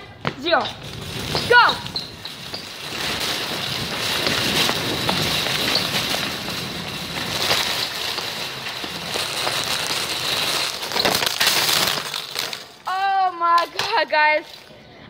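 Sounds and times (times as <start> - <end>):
shopping cart rattling: 0.4 - 14.1.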